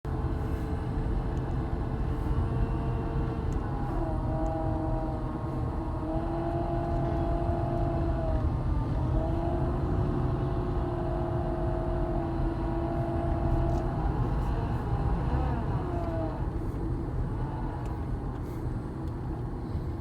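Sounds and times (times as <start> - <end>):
car engine rumble: 0.1 - 20.0.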